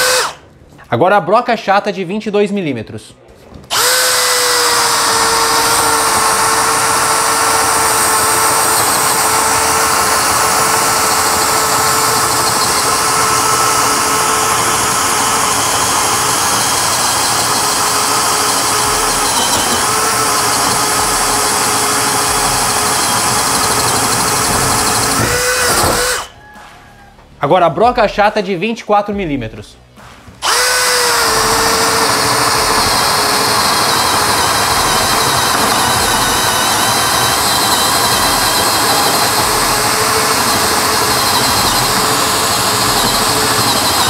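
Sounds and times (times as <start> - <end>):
drill boring into wood: 0.0 - 0.4, 3.7 - 26.3, 30.4 - 44.0.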